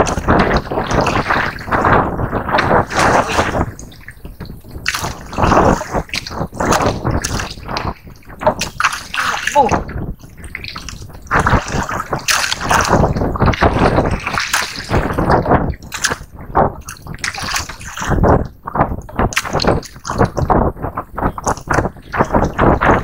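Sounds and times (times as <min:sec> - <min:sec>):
water splashing against boat hull: 0:00.0 - 0:23.0.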